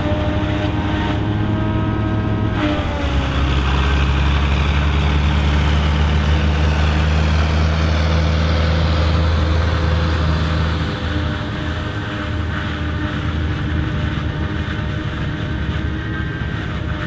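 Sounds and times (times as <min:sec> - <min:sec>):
diesel engine hum: 0:00.0 - 0:17.0
forage harvester chopping crop: 0:00.0 - 0:17.0.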